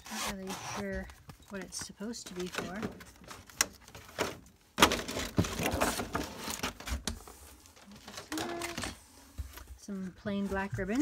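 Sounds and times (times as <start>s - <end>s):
plastic packaging rustling: 1.1s - 11.0s.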